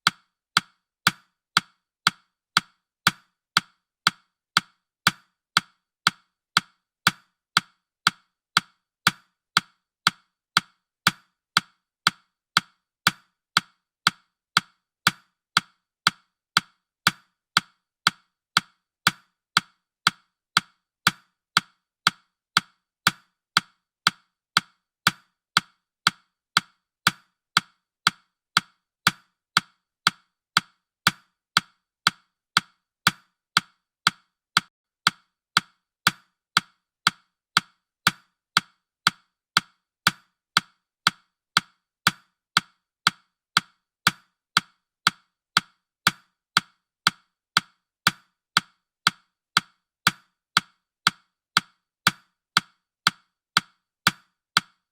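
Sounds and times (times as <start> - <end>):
clock-like timer ticks: 0.0 - 54.9.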